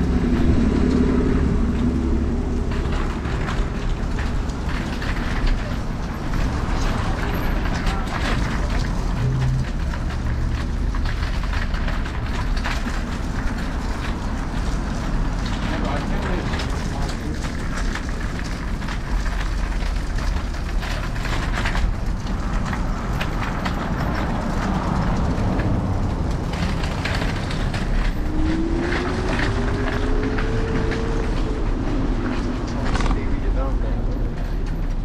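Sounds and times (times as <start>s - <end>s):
clicks and knocks from pavement: 0.0s - 35.0s
scooter road rattle rumble: 0.0s - 35.0s
wind buffeting: 0.0s - 35.0s.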